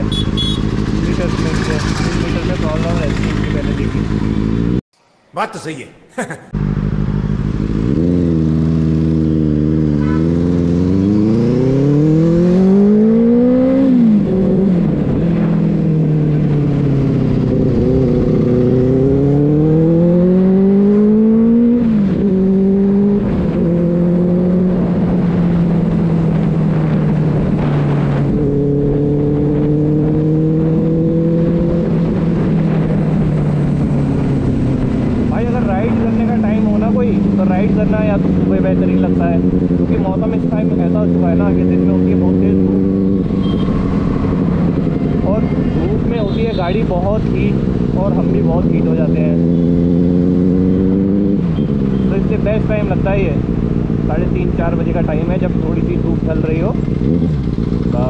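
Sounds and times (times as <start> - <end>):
motorcycle engine revving through gears: 0.0 - 4.8, 6.5 - 58.0.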